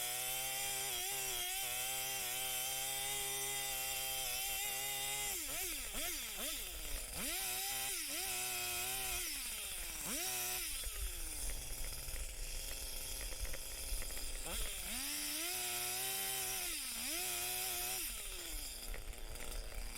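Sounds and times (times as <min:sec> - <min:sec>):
chainsaw revving and idling: 0:00.0 - 0:19.9.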